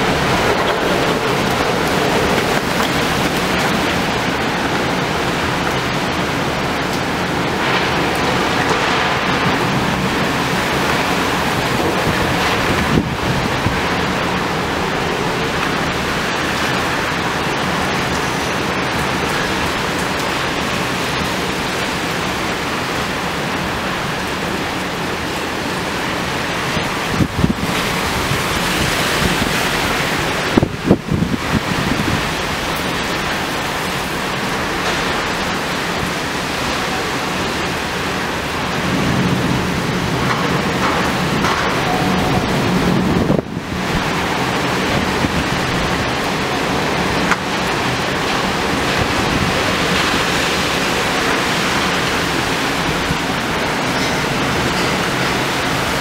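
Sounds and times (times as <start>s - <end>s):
heavy rain: 0.0s - 56.0s
storm wind buffeting microphone: 0.0s - 56.0s.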